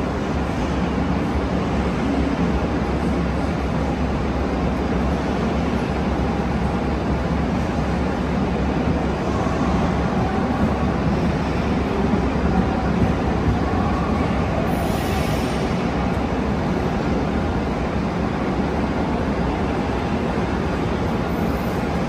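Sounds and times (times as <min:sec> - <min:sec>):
steel wheels running on rails: 0:00.0 - 0:22.0.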